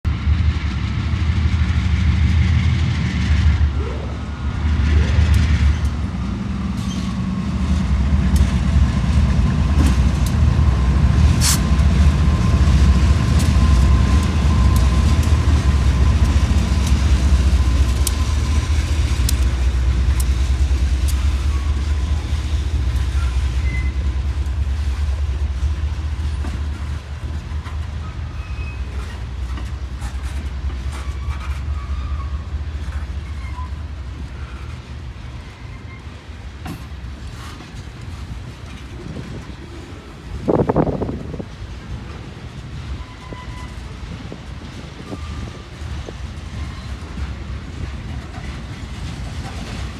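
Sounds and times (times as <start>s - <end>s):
diesel locomotive rumble: 0.0s - 49.9s
wheels clicking on rails: 3.6s - 49.9s.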